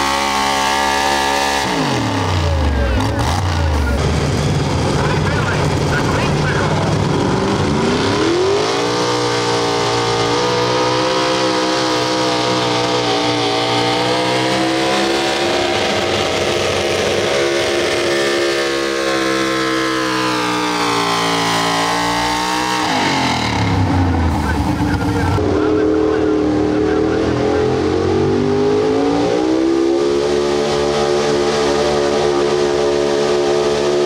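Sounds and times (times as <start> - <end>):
truck engine at full throttle: 0.0 - 34.0.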